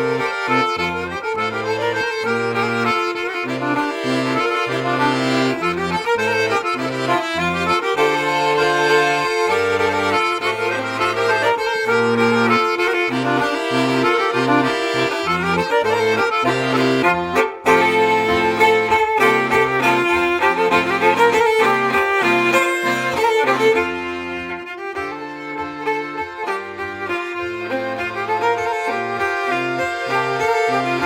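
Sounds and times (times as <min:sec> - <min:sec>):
folk tune on accordion: 0:00.0 - 0:31.0.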